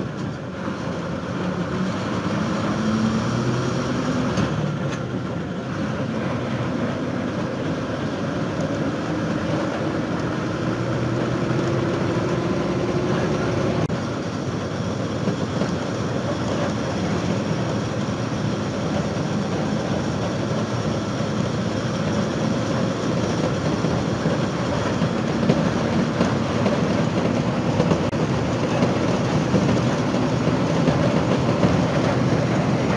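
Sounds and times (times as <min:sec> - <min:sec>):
bus engine and road rumble: 0:00.0 - 0:32.9
continuous rattle: 0:04.3 - 0:32.9.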